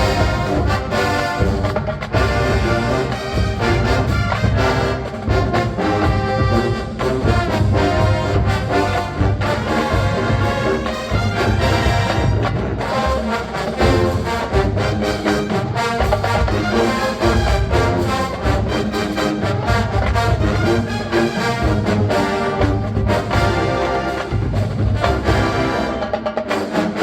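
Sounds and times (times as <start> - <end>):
steady drum beat: 0.0 - 27.0
trombones and trumpets: 0.0 - 27.0.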